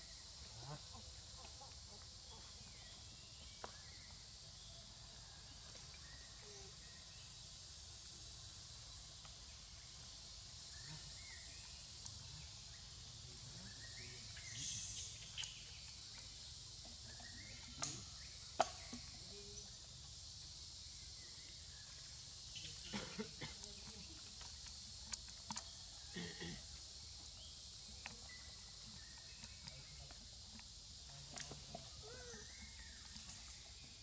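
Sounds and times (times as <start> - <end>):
faint chirps: 0.0 - 34.0
forest insects droning: 0.0 - 34.0.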